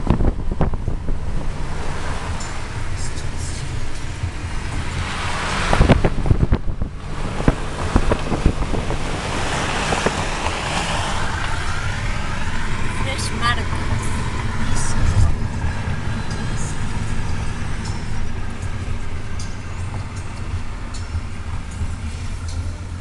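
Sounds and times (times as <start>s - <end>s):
car road noise rumble: 0.0s - 23.0s
wind buffeting microphone: 0.0s - 23.0s.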